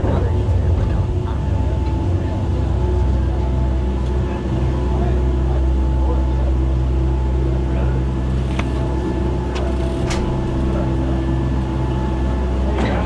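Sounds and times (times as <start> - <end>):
low mechanical hum with tones: 0.0 - 13.0.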